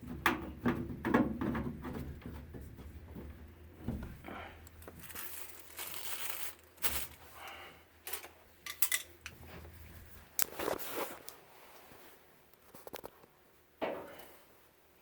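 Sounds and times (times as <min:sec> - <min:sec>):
rustling and crinkling handling: 0:00.0 - 0:13.4.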